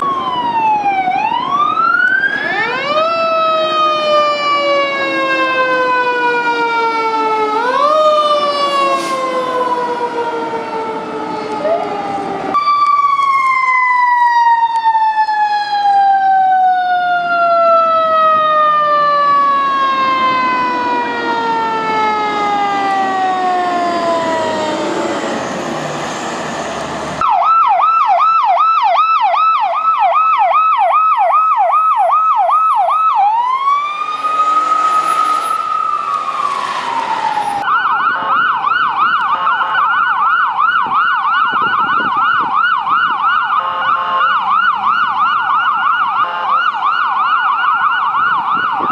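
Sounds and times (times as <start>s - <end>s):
electronic siren yelp: 0.0s - 25.6s, 27.2s - 48.9s
mechanical siren winding down: 0.0s - 39.4s
siren wail: 0.0s - 48.9s.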